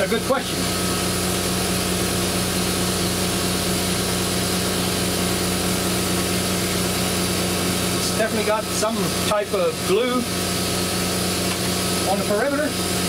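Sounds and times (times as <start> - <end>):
machine drone with hum and hiss: 0.0 - 13.0.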